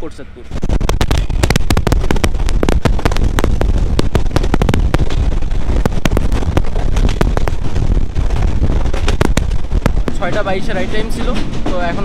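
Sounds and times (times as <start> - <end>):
train running noise: 0.0 - 12.0
wind blasting microphone: 0.0 - 12.0
crackling pops: 0.6 - 11.0.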